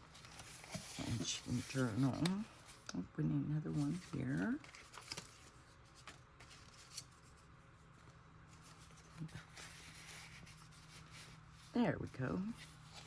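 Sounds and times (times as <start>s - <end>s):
paper rustling: 0.0s - 2.9s, 3.8s - 11.8s, 12.4s - 13.0s.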